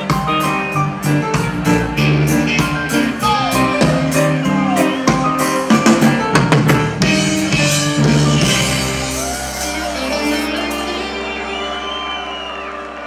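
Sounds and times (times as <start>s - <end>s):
live reggae band playing: 0.0s - 13.0s.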